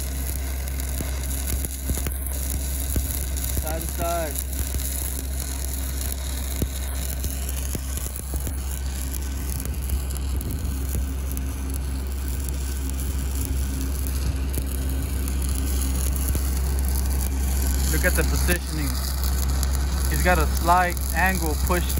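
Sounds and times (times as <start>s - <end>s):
constant low hum: 0.0s - 21.9s
welding arc crackling and hissing: 0.0s - 21.9s.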